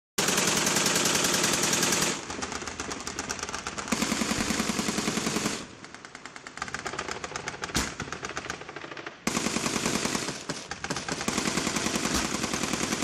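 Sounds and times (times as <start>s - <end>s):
machine guns firing bursts: 0.2s - 13.0s.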